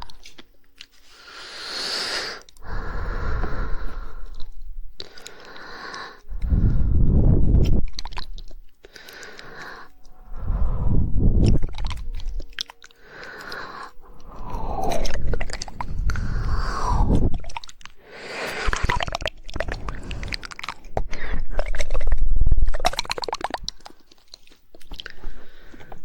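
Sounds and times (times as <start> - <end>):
tongue clicking and smacking: 3.8 - 26.0.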